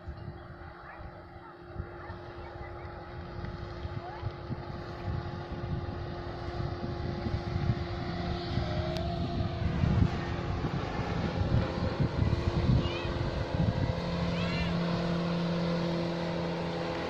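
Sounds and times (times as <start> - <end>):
motorboat engine humming: 0.0 - 17.0
wind rumbling on microphone: 0.0 - 17.0.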